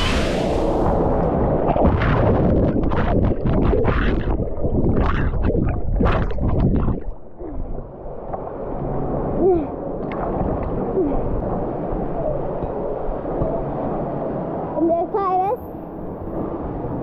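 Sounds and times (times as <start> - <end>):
water splashing and churning: 0.0 - 13.9
muffled water background: 0.0 - 17.0.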